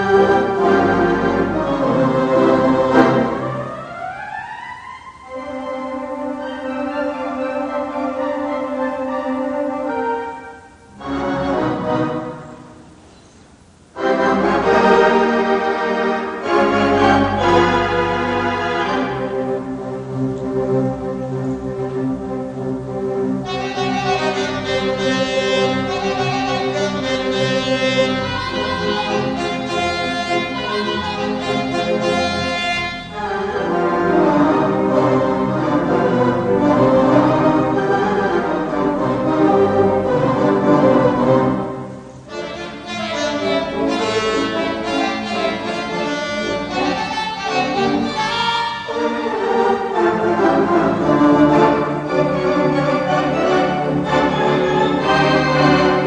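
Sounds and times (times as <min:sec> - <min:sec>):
orchestral strings playing sustained notes: 0:00.0 - 0:56.0.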